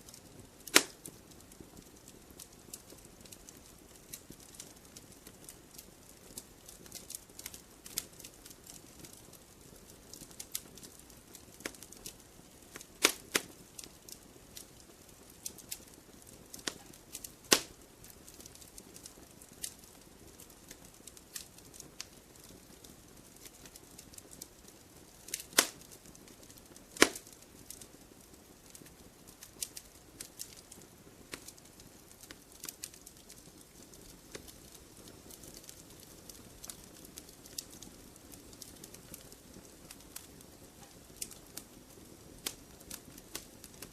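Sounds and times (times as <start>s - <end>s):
campfire crackling: 0.0s - 43.9s
fire pops: 0.1s - 43.9s.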